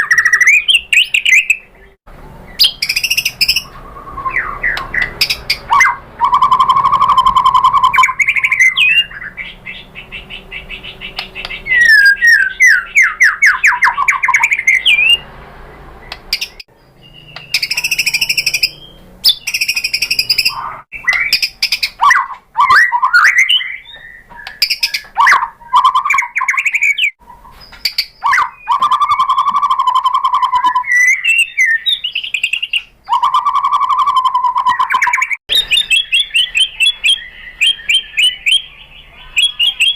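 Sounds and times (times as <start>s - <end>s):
bird singing varied phrases: 0.0s - 39.9s.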